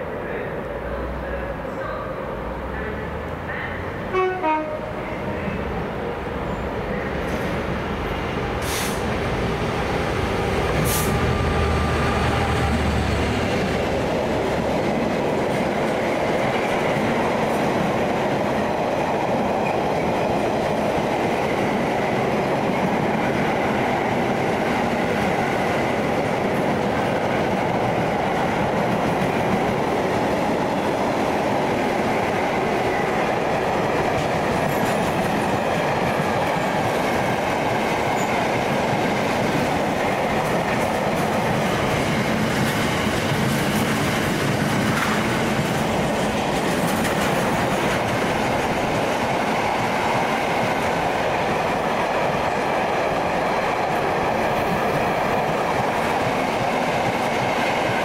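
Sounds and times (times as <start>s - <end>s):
train wheels rumbling on rails: 6.2s - 58.0s.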